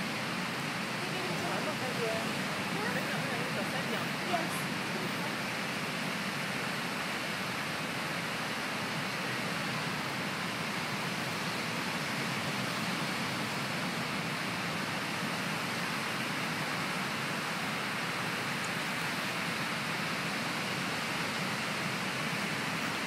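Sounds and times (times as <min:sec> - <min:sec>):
wind and sea at shore: 0:00.0 - 0:23.0.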